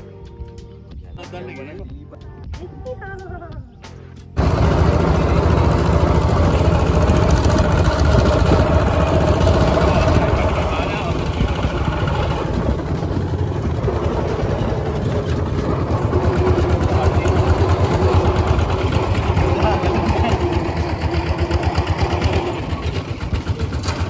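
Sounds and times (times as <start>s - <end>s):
diesel engine chugging: 4.4s - 24.0s.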